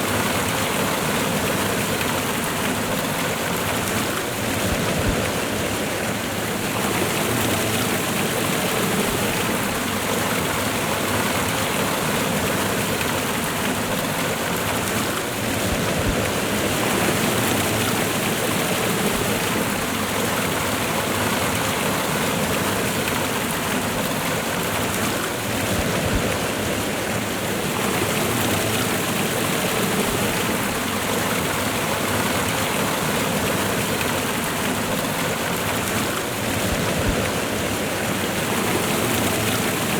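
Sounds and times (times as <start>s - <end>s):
waterfall and river rushing: 0.0s - 39.9s.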